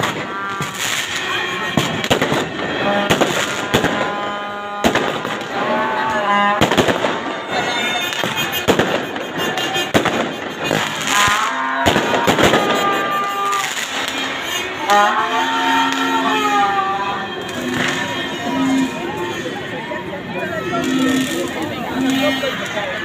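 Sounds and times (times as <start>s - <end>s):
firework crackling: 0.0s - 23.0s
fireworks bangs: 0.0s - 23.0s
people's voices: 0.0s - 23.0s.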